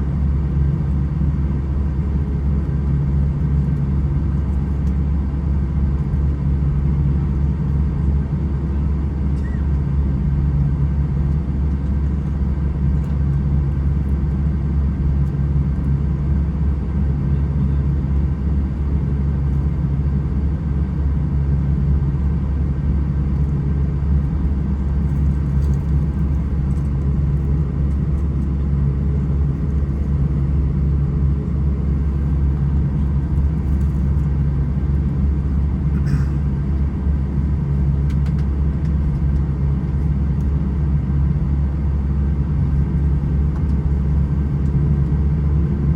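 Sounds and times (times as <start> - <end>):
aircraft engine drone: 0.0 - 45.9.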